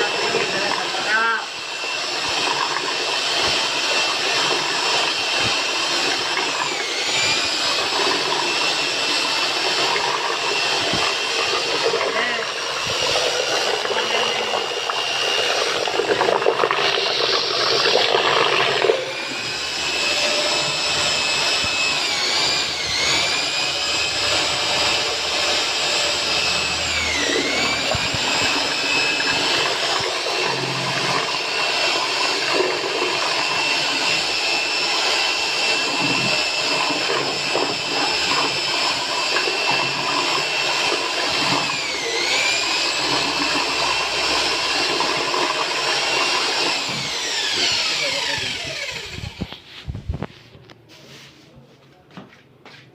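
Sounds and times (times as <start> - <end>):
electric batter mixer whining: 0.0 - 50.4.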